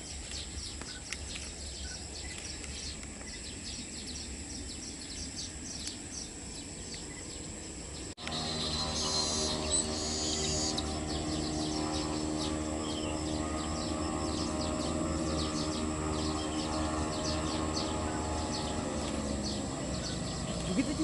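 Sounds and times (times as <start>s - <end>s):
insects chirping: 0.0s - 21.0s
steady hum: 0.0s - 21.0s.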